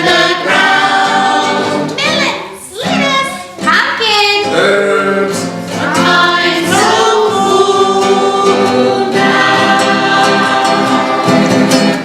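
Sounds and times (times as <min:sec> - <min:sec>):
group singing children's song: 0:00.0 - 0:12.0
musical backing: 0:00.0 - 0:12.0.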